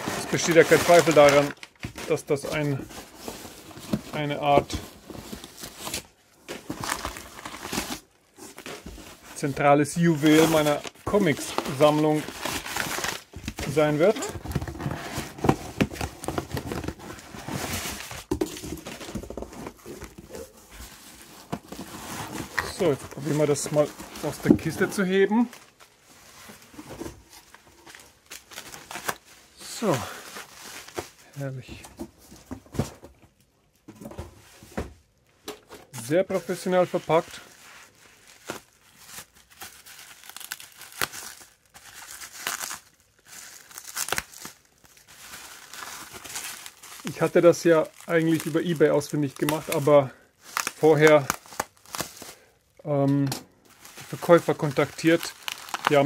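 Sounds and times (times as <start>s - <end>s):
bubble wrap crinkling: 0.0s - 31.6s, 36.0s - 52.7s, 53.5s - 56.0s.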